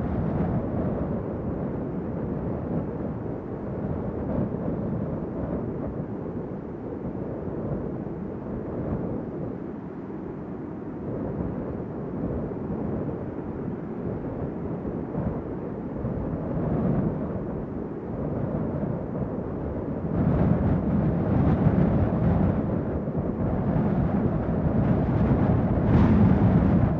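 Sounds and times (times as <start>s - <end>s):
wind blowing: 0.0s - 26.9s.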